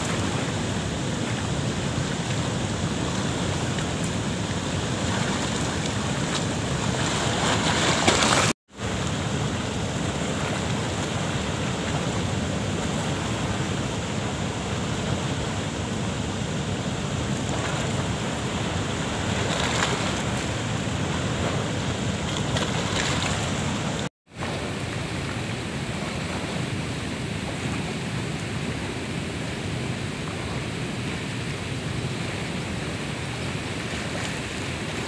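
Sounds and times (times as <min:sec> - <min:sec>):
fast-flowing river water: 0:00.0 - 0:35.0
water rushing through sluice gates: 0:00.0 - 0:35.0.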